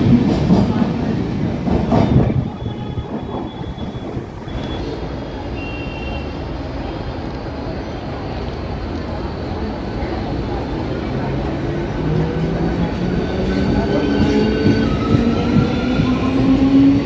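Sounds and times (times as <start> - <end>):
train rattling over rail joints: 0.0 - 5.8, 8.1 - 17.0.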